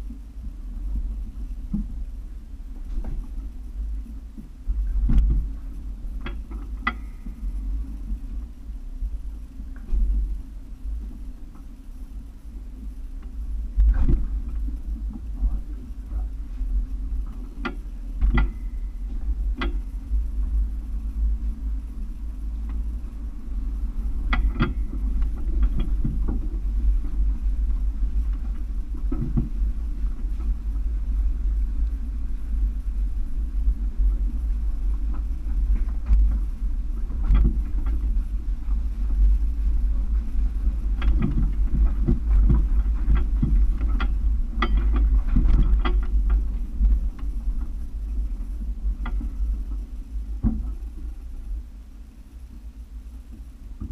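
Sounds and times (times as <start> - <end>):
vehicle low rumble: 0.0 - 53.9.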